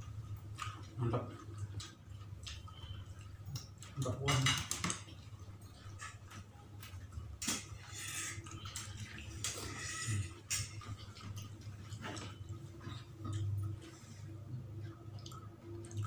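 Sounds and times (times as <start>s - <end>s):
man chewing: 0.0s - 3.9s, 5.1s - 16.0s.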